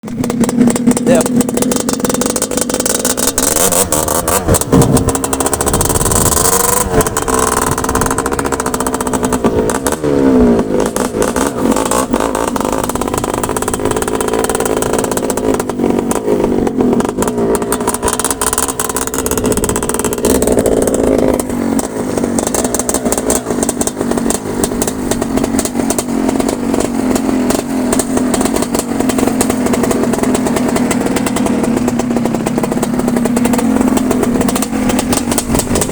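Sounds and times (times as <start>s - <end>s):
engine revving: 0.0s - 35.9s.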